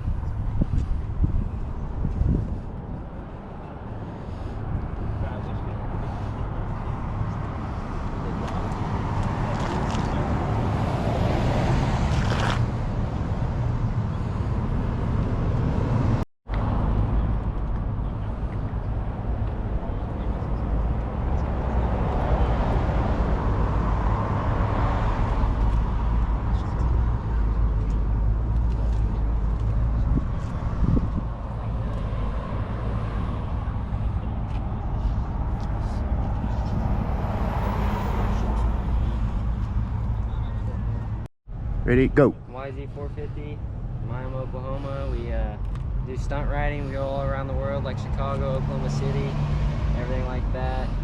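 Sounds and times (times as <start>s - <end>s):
outdoor background noise: 0.0s - 51.0s.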